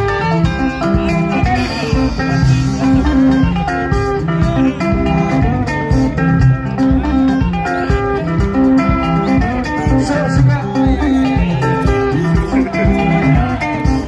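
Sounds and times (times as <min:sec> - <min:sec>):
bass line: 0:00.0 - 0:14.0
plucked guitar lines: 0:00.0 - 0:14.0
steady drum beat: 0:00.0 - 0:14.0.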